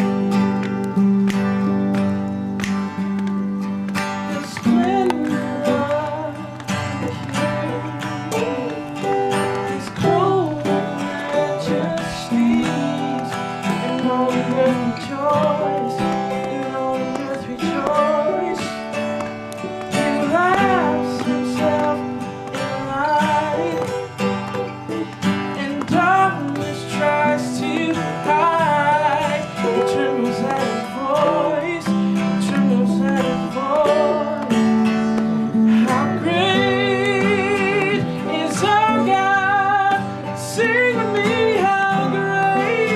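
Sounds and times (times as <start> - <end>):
acoustic guitar strumming: 0.0 - 42.9
person singing: 0.0 - 42.9.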